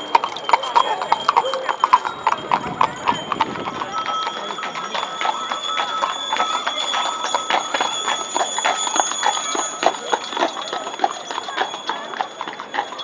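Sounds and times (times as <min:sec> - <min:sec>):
steady high ringing tone: 0:00.0 - 0:12.6
harness bells ringing: 0:00.0 - 0:13.0
hooves clip-clopping on pavement: 0:00.0 - 0:13.0.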